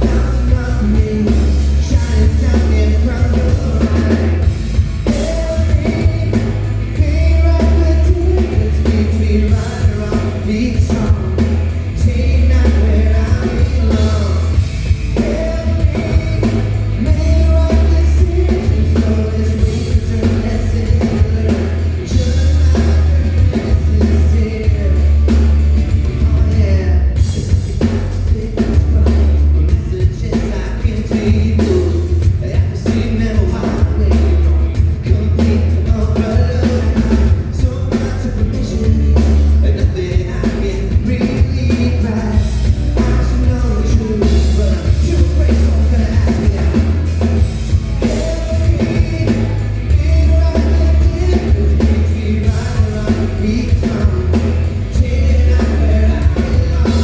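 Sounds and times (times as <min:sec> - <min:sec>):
lead vocal singing: 0:00.0 - 0:57.0
live pop-rock band playing: 0:00.0 - 0:57.0.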